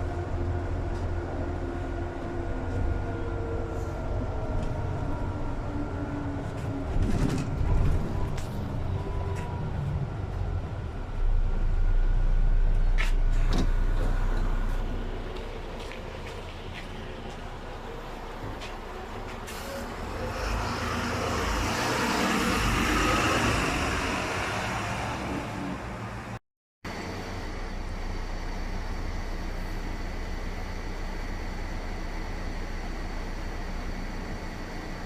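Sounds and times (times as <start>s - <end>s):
bus engine and road rumble: 0.0s - 35.0s.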